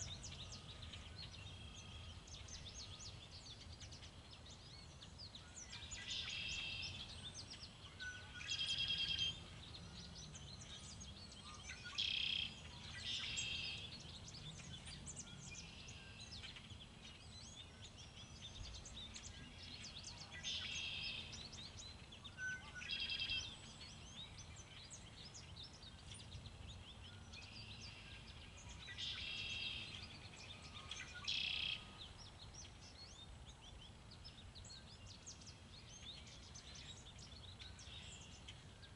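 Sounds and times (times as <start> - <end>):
songbirds chattering: 0.0 - 38.9.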